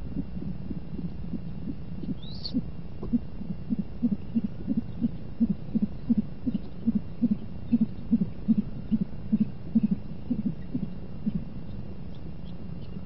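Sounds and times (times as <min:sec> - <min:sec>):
owl hooting: 0:00.1 - 0:11.5.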